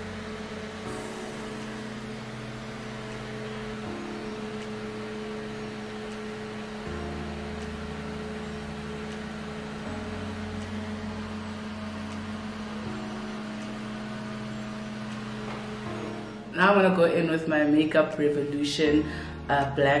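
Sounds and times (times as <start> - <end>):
small fan whirring: 0.0 - 20.0.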